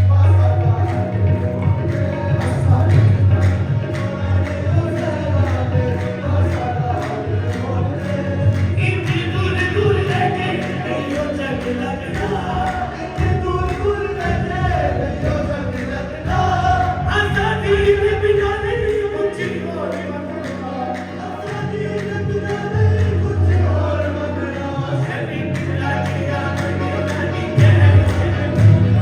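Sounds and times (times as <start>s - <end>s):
percussion beat: 0.0s - 29.0s
voices singing together: 0.0s - 29.0s.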